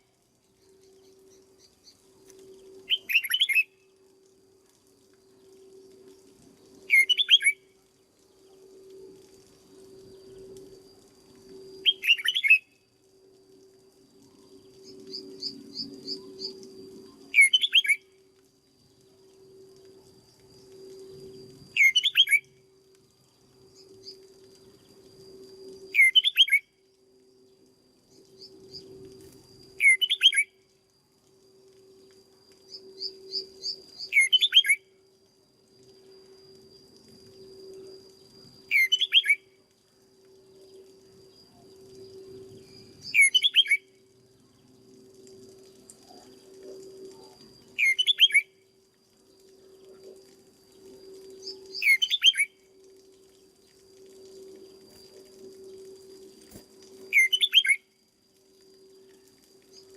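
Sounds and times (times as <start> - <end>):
soft bird chirps: 0.0 - 3.9, 4.8 - 10.7, 11.6 - 12.8, 14.3 - 18.2, 20.5 - 22.6, 23.2 - 26.7, 27.4 - 30.6, 32.0 - 35.0, 37.2 - 39.6, 40.3 - 48.6, 49.2 - 59.9
bulbul whistled song: 0.0 - 4.0, 6.7 - 12.9, 14.5 - 22.8, 23.7 - 26.8, 28.1 - 30.7, 31.8 - 35.1, 35.8 - 44.2, 47.0 - 50.0, 50.7 - 59.9
faint steady hum: 0.0 - 59.9.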